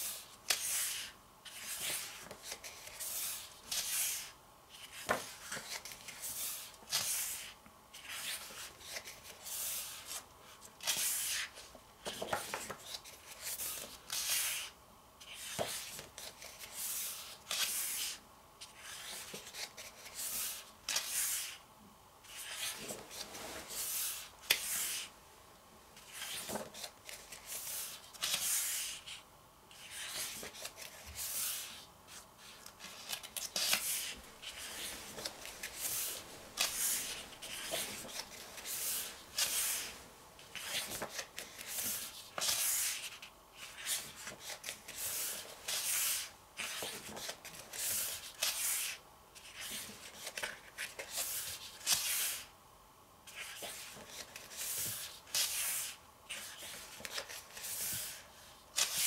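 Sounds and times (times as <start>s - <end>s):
book pages turning: 0.0s - 21.6s, 22.2s - 25.1s, 26.0s - 52.5s, 53.3s - 59.0s.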